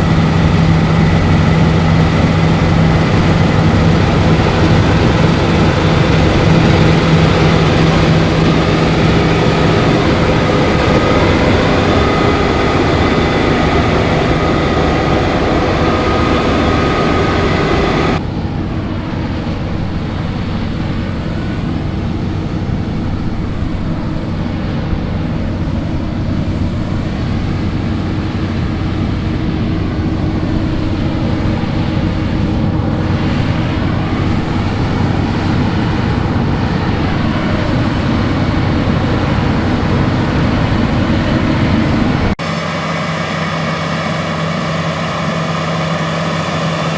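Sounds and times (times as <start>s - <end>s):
combine harvester engine drone: 0.0s - 46.9s
threshing machinery whine: 0.0s - 46.9s.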